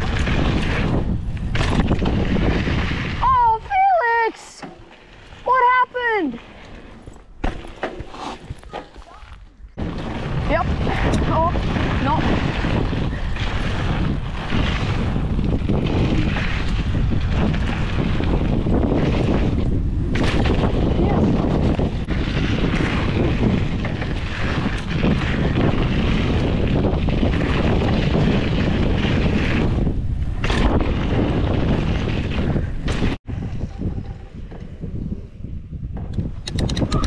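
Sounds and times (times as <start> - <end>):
tyres rumbling over dirt: 0.0 - 34.9
wind rushing over microphone: 0.0 - 37.0.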